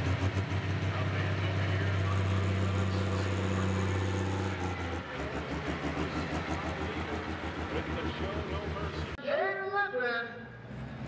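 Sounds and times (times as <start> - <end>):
diesel engine revving: 0.0 - 9.2.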